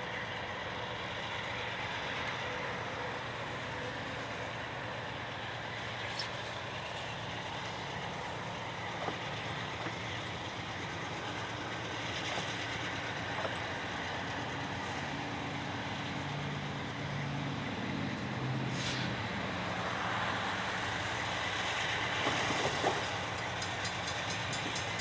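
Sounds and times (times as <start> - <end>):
diesel locomotives idling: 0.0 - 25.0.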